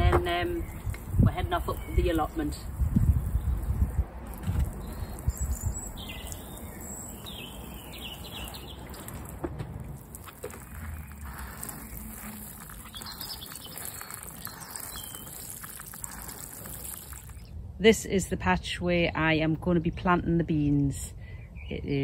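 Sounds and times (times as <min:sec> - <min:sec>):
small birds chirping: 0:00.0 - 0:17.6, 0:19.8 - 0:22.0.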